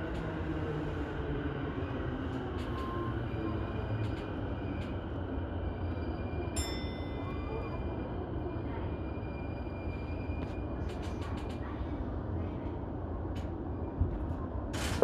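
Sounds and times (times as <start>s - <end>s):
train wheels rumbling on rail: 0.0s - 6.6s, 7.2s - 15.0s.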